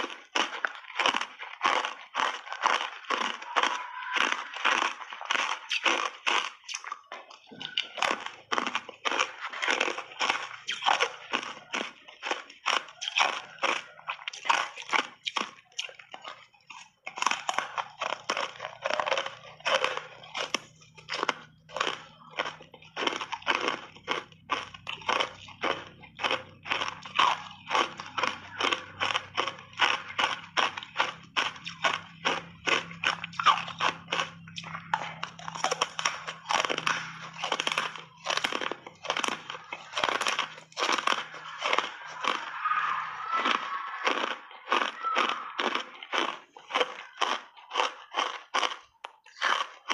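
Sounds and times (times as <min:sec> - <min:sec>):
ice crunching while chewed: 0:00.0 - 0:49.9.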